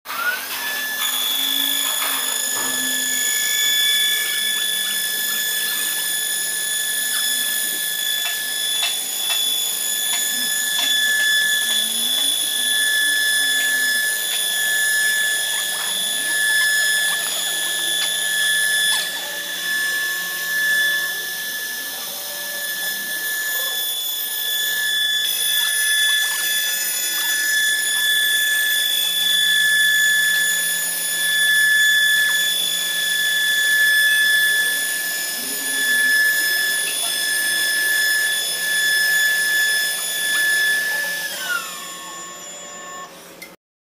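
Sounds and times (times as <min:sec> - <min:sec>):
high whine of cutting spindles: 0:00.1 - 0:43.6.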